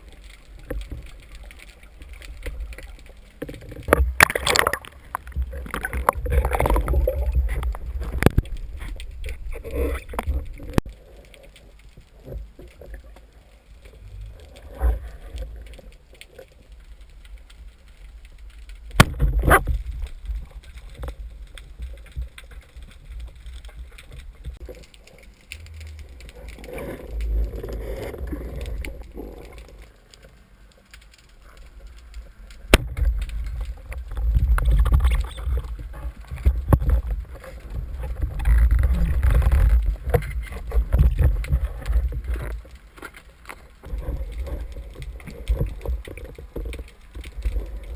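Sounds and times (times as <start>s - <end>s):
muffled underwater water movement: 0.0s - 47.9s.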